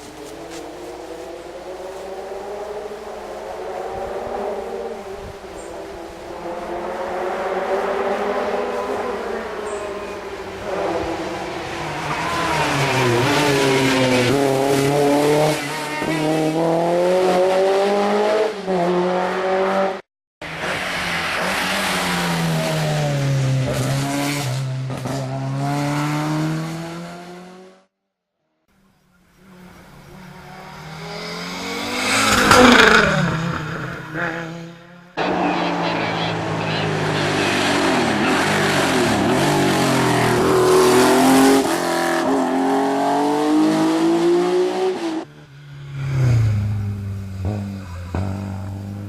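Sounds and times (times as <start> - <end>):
car passing close by: 0.0 - 27.8, 29.4 - 49.0
rally car engines revving: 0.0 - 27.9, 28.9 - 49.0.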